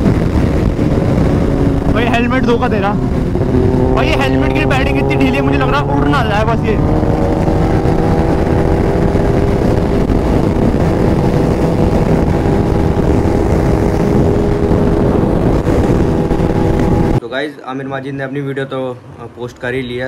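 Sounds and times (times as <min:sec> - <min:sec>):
motorcycle engine drone: 0:00.0 - 0:17.2
wind rush over microphone: 0:00.0 - 0:17.2.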